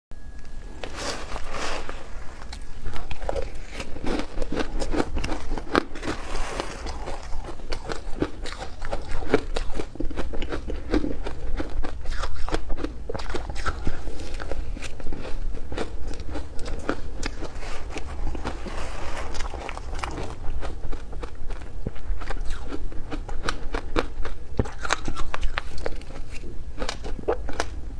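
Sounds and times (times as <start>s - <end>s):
ice being bitten and chewed: 0.4s - 27.9s.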